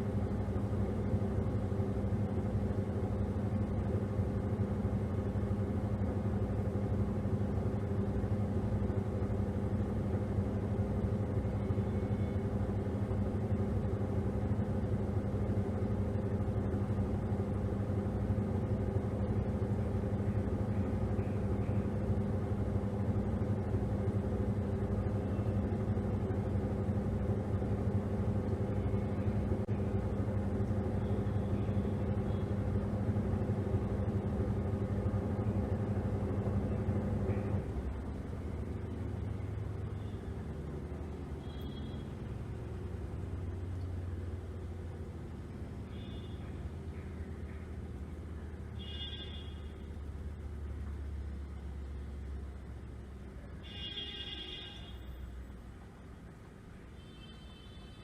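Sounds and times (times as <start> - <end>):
washing machine motor hum: 0.0 - 54.5.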